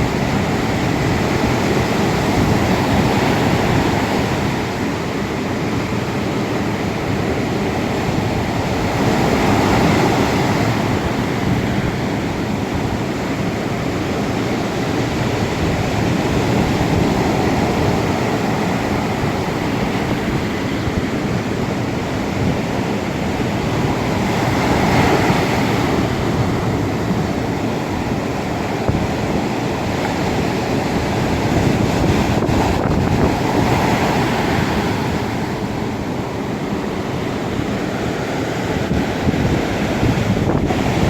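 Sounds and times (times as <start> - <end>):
ocean waves breaking on shore: 0.0 - 41.0
wind buffeting microphone: 0.0 - 41.0.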